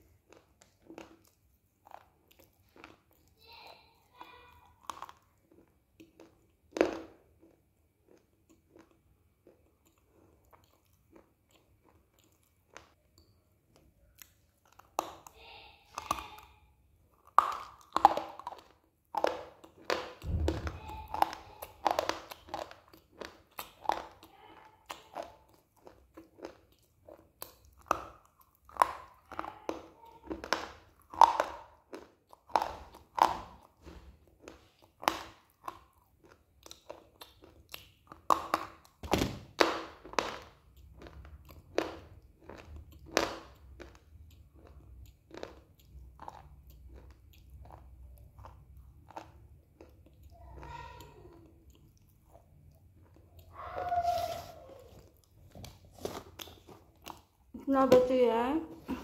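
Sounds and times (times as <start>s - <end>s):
person crunching and chewing: 0.0s - 57.5s.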